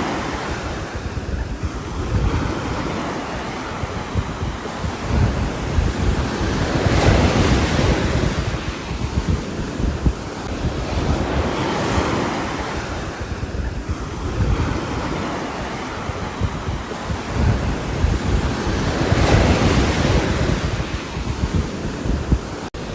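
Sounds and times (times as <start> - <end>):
wind with deep rumble: 0.0 - 22.9.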